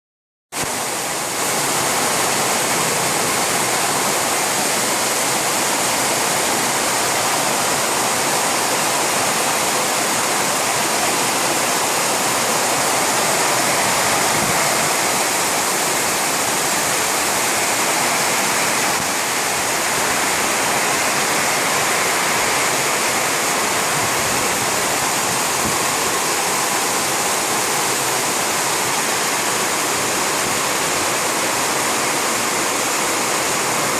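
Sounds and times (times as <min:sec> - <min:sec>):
torrential rain hissing: 0:00.6 - 0:33.9.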